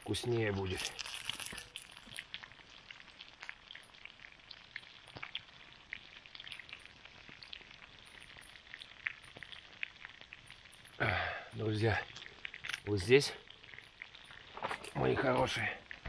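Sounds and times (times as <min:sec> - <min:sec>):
food sizzling in a skillet: 0:00.0 - 0:16.0
small pops and crackles: 0:00.0 - 0:16.0.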